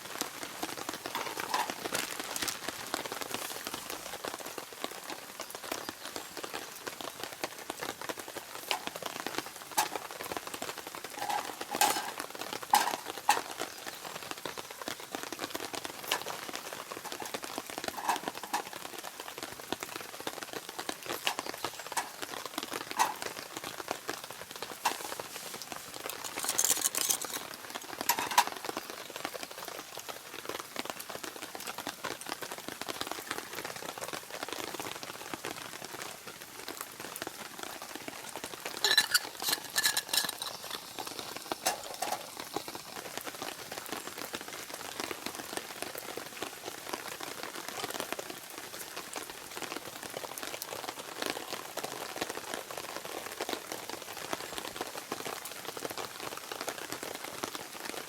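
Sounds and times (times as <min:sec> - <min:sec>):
raindrops tapping: 0:00.0 - 0:58.0
steady rain falling: 0:00.0 - 0:58.0.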